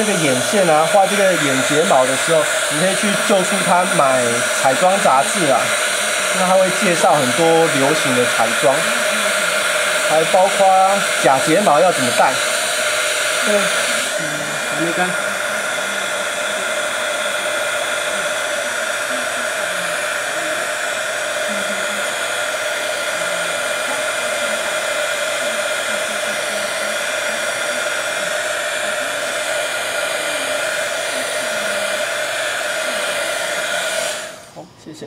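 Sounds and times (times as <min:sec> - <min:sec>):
heat gun blowing air: 0:00.0 - 0:34.6.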